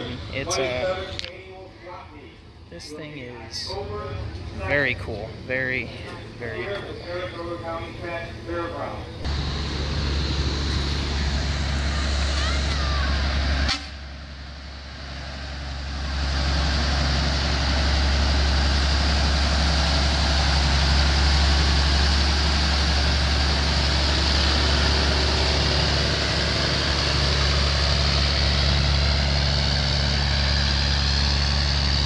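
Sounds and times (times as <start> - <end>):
truck engine driving by: 0.0 - 1.4, 2.4 - 32.0.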